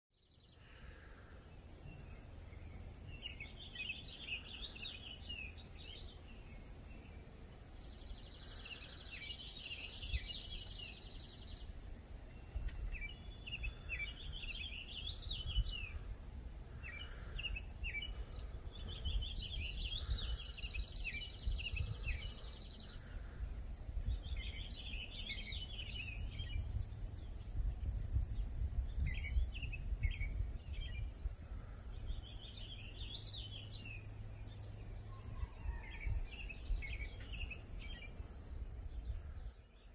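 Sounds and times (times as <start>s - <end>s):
songbirds chirping and singing: 0.2s - 39.9s.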